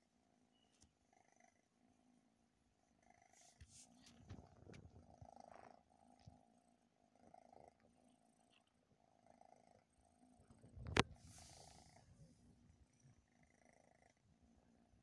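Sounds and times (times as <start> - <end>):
cat purring: 1.0 - 15.0.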